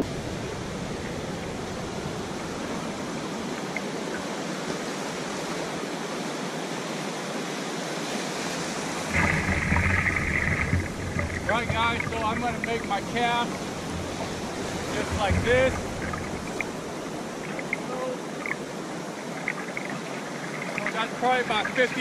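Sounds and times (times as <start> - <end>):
surf washing in shallow water: 0.0 - 22.0.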